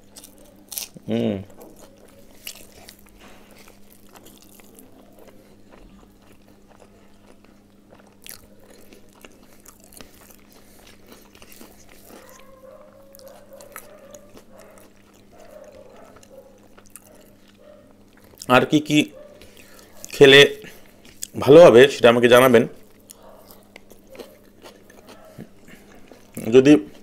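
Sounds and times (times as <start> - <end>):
chewing and mouth sounds: 0.0 - 21.4, 22.8 - 27.0.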